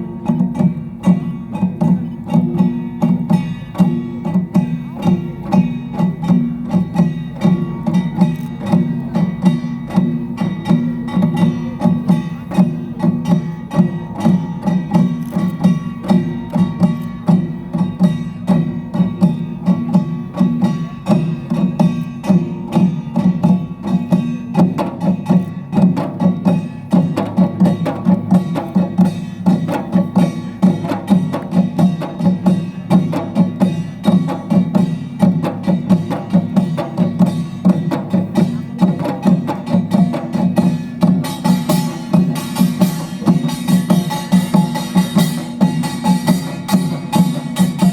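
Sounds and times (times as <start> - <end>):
barrel drum: 0.0 - 47.9
hourglass drum: 0.0 - 47.9
percussion ensemble playing: 0.0 - 47.9.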